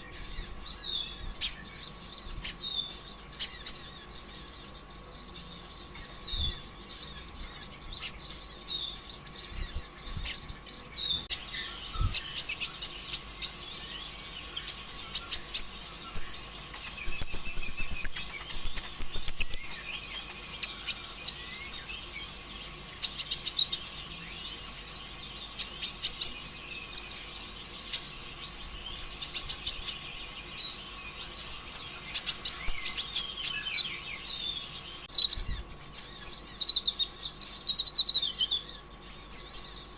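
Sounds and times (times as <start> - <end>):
faint steady hum: 0.0 - 39.9
sunbird chirps and trills: 0.0 - 39.9.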